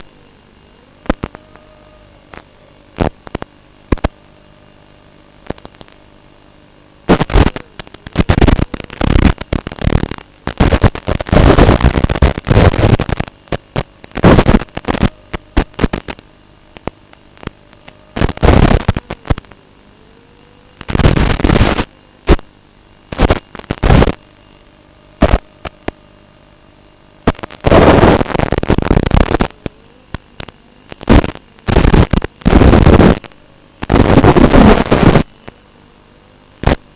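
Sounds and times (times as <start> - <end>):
faint steady hum: 0.0 - 36.9
radio static hiss bursts: 0.0 - 36.9.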